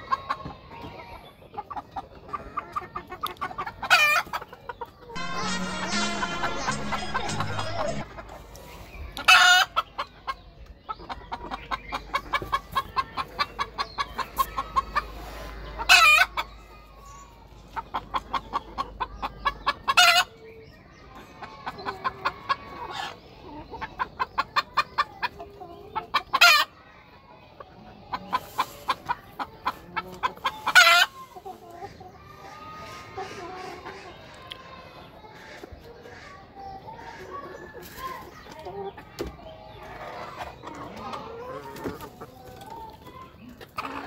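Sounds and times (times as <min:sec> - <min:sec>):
chicken clucking and squawking: 0:00.0 - 0:44.0.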